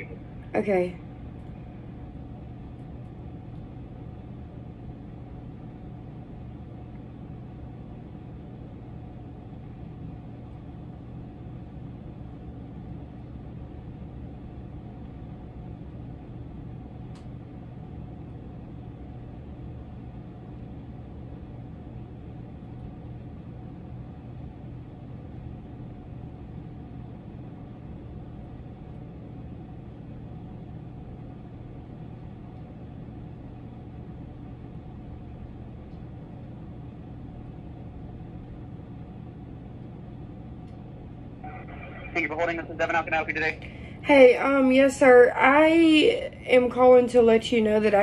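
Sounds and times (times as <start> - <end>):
faint background rumble: 0.0 - 48.0
steady low hum: 0.0 - 48.0.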